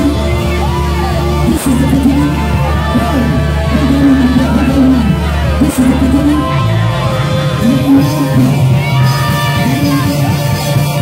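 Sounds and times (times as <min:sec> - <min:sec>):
church band playing worship music: 0:00.0 - 0:11.0
steady bass: 0:00.0 - 0:11.0.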